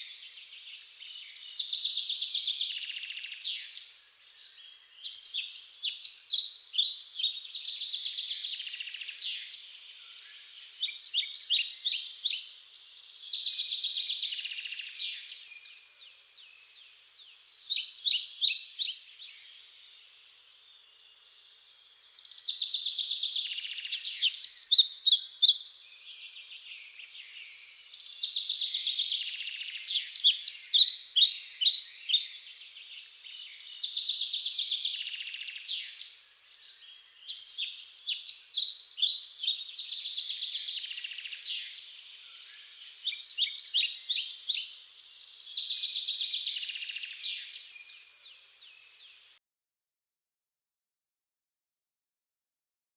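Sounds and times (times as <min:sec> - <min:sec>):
faint chorus of bird chirping: 0:00.0 - 0:49.4.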